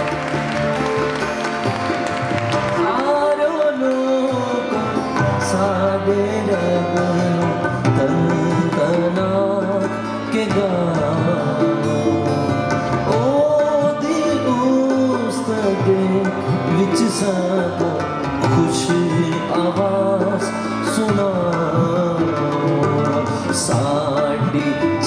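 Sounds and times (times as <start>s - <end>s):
live band playing worship song: 0.0s - 25.0s.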